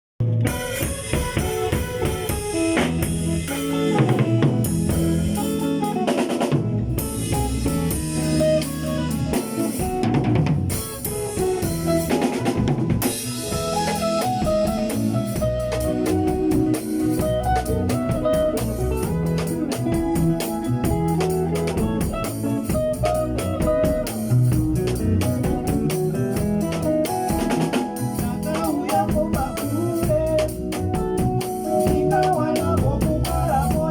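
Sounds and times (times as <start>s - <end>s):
drum kit beat: 0.2s - 33.9s
sustained backing instruments: 0.4s - 29.0s.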